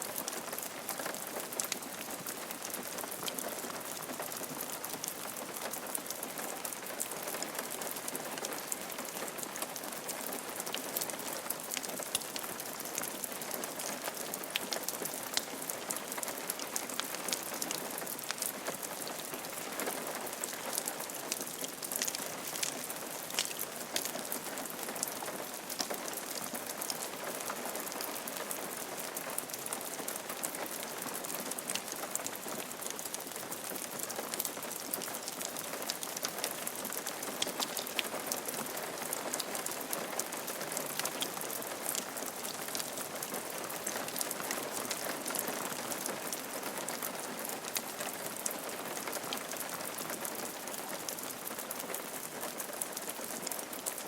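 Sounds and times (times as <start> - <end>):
rain falling on a roof: 0.0 - 54.0
raindrops ticking: 6.8 - 54.0.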